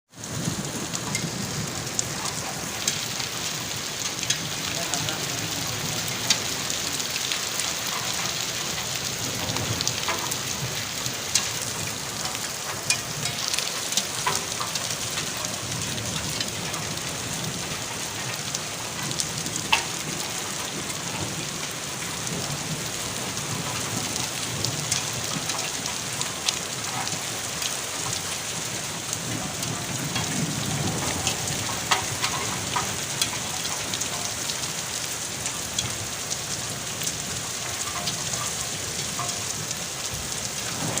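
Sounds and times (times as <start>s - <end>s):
raindrops ticking on surfaces: 0.1s - 41.0s
steady rain hiss: 0.1s - 41.0s.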